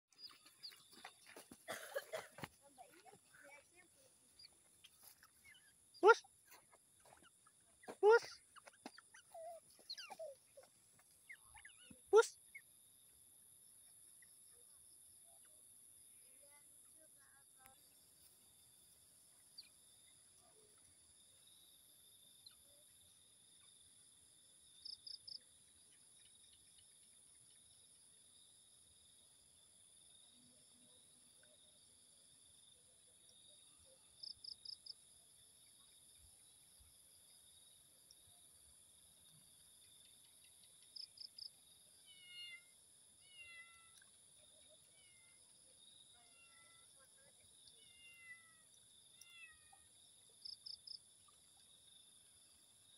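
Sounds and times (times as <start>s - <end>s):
faint insect drone: 0.2s - 52.9s.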